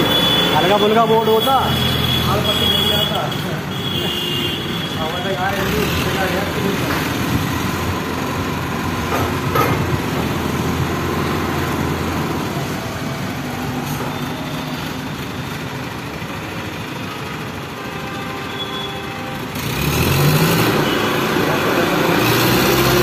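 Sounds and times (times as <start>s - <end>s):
crane diesel engine running: 0.0s - 4.2s, 4.8s - 23.0s.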